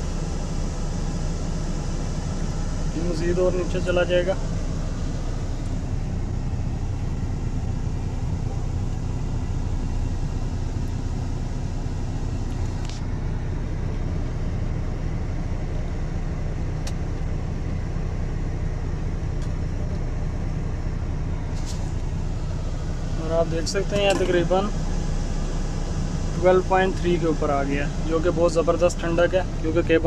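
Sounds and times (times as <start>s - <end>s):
air-conditioning blower: 0.0s - 30.0s
truck diesel engine idling: 0.0s - 30.0s.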